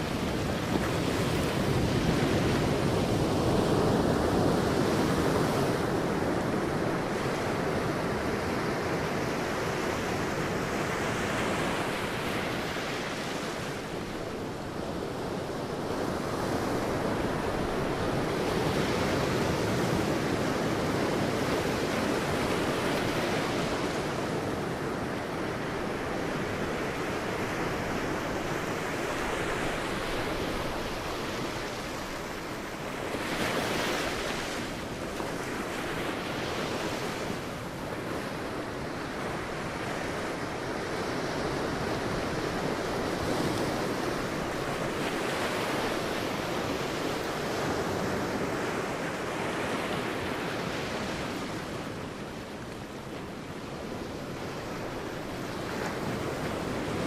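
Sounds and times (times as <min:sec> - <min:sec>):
sea waves breaking on a beach: 0:00.0 - 0:57.0.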